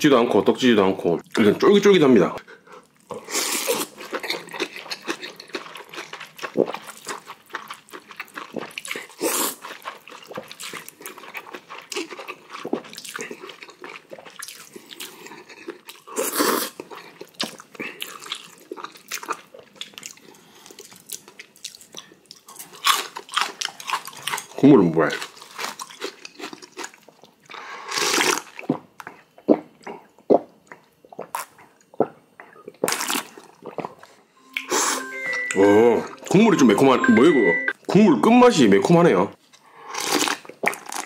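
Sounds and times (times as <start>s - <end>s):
person slurping and chewing noodles: 2.8s - 24.6s, 25.2s - 36.5s, 39.7s - 41.0s.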